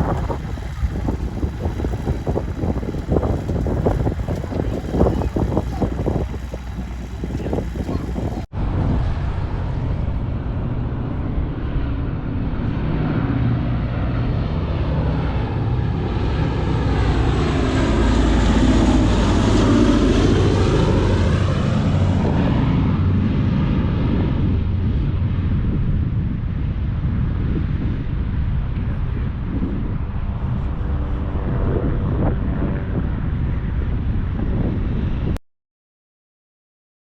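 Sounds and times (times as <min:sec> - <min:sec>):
propeller plane passing: 0:00.0 - 0:08.5, 0:12.6 - 0:25.8, 0:26.7 - 0:35.3.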